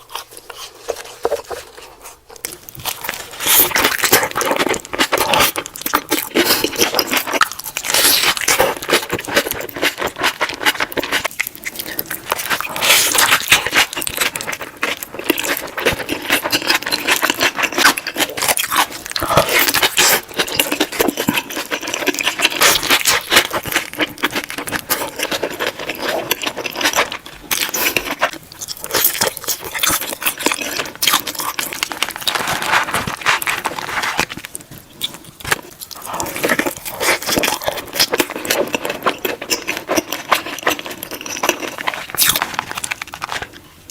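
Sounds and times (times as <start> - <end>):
person chewing burger: 0.0 - 43.9.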